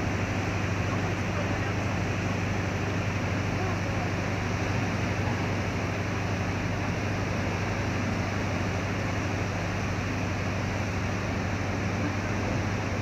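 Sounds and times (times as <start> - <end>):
churning water rushing: 0.0 - 13.0
low engine hum: 0.0 - 13.0.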